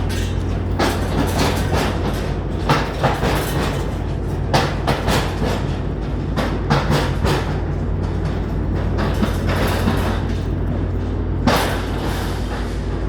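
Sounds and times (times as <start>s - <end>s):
train low rumble: 0.0s - 13.0s
train wheels clacking over rail joints: 0.0s - 13.0s.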